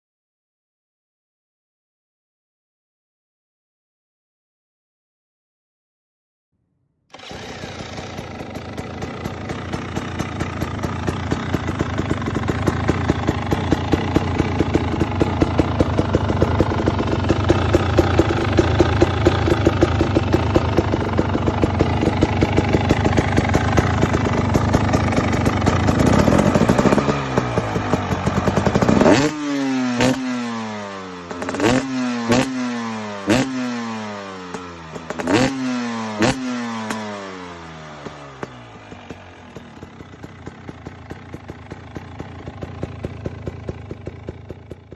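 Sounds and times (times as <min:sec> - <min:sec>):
two-stroke engine idling: 0:07.1 - 0:44.9.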